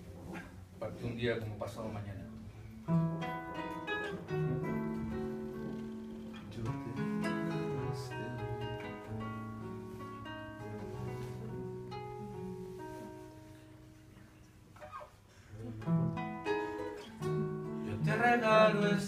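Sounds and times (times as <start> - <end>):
acoustic guitar playing: 2.2 - 19.0.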